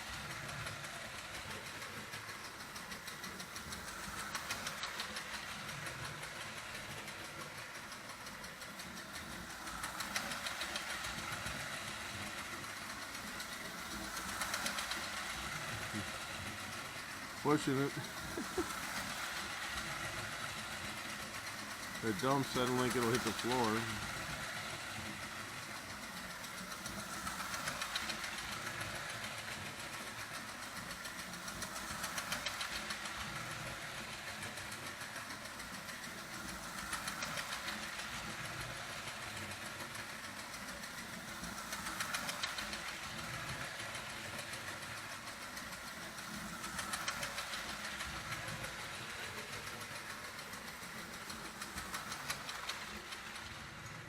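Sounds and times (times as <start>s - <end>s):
toy train mechanical clatter: 0.0s - 54.0s.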